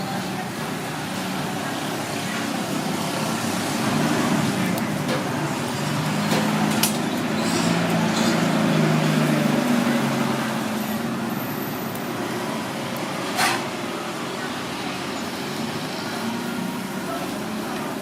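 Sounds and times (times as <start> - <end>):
vehicle engines passing: 0.0 - 18.0.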